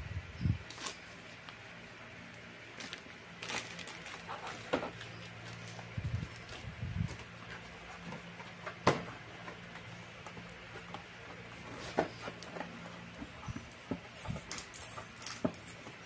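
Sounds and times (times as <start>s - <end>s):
cardboard box rustling: 2.8s - 16.0s.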